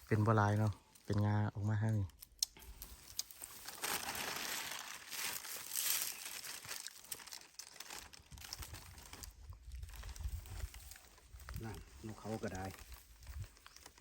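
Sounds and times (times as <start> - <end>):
dry leaves crunching underfoot: 2.2 - 14.0.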